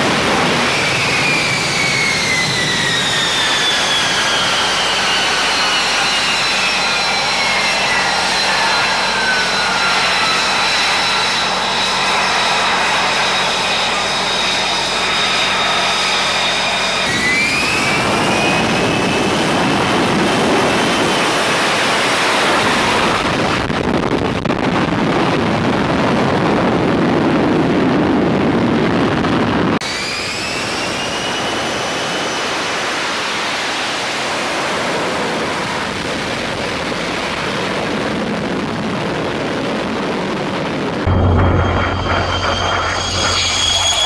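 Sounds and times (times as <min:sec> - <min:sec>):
jet engine roaring with whine: 0:00.0 - 0:44.0
jet hovering roar: 0:00.0 - 0:44.0.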